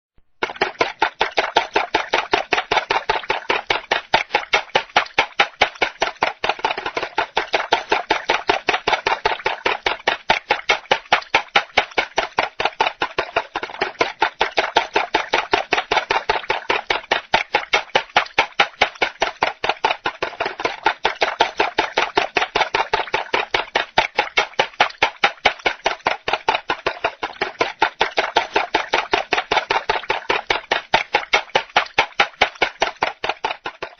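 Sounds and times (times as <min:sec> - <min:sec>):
utensil beating eggs in a bowl: 0:00.4 - 0:33.9.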